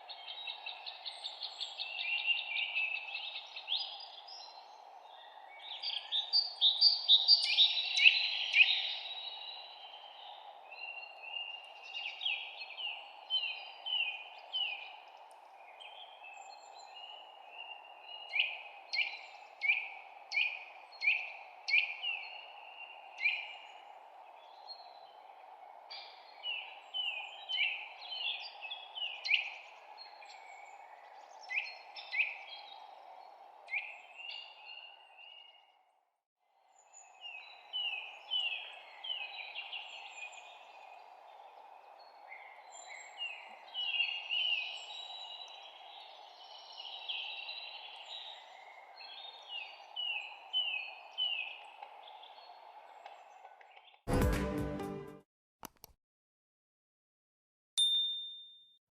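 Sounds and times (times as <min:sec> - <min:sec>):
small songbirds chirping: 0:00.0 - 0:35.8, 0:36.6 - 0:54.0.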